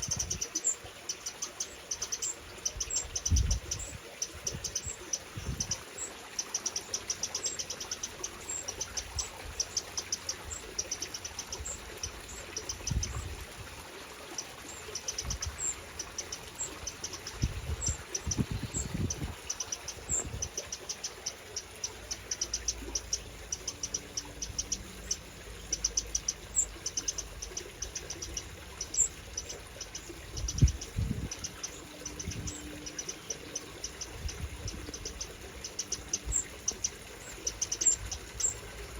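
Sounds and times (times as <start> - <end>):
wrens calling with chip notes: 0.0 - 13.4, 14.2 - 38.9.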